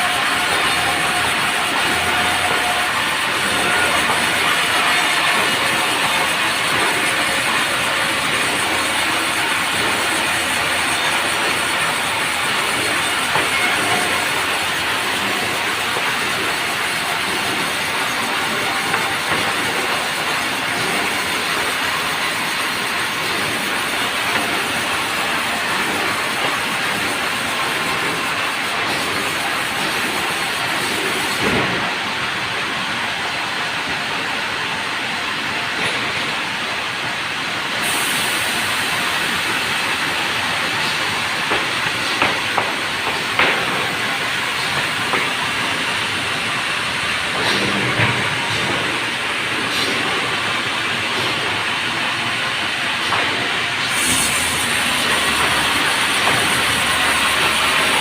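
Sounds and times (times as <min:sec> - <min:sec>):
sawmill cutting wood: 0:00.0 - 0:32.0, 0:37.8 - 0:58.0.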